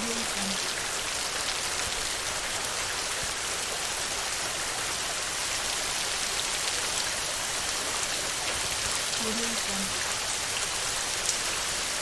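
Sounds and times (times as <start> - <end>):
rain on a tin roof: 0.0 - 12.0.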